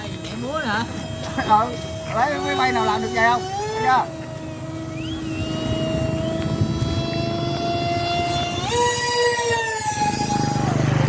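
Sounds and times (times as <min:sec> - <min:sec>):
propeller aircraft engine whine: 0:00.0 - 0:11.0.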